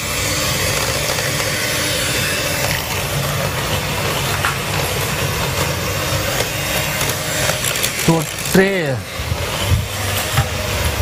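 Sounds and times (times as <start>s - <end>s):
electric hand mixer whisking: 0.0s - 11.0s.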